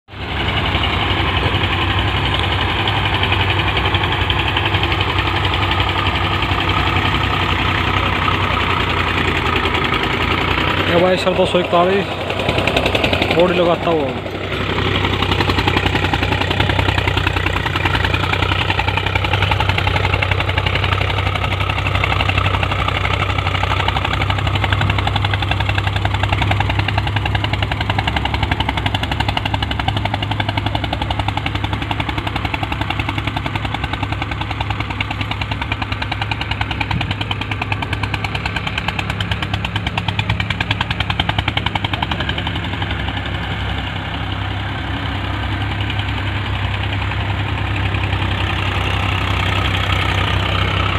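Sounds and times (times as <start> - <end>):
tractor diesel engine knocking: 0.1 - 50.9.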